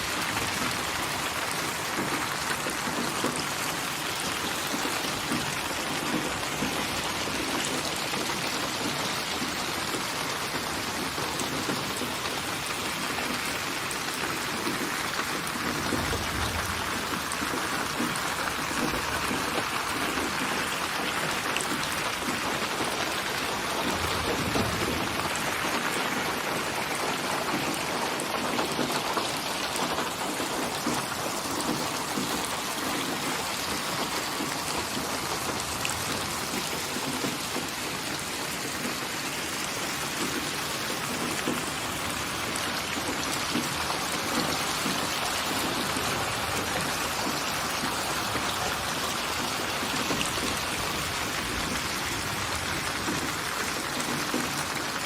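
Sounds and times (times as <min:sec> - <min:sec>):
rain falling: 0:00.0 - 0:55.0
raindrop ticks: 0:00.1 - 0:55.0.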